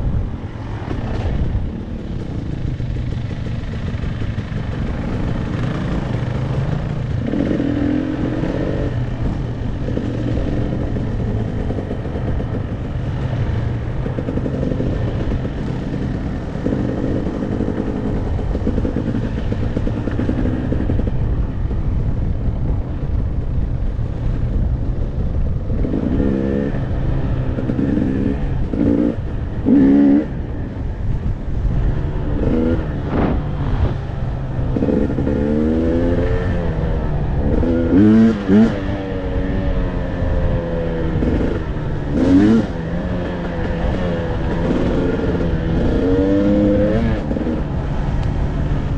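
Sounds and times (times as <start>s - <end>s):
dirt bike engine revving: 2.1s - 21.2s, 25.7s - 30.5s, 32.1s - 47.6s.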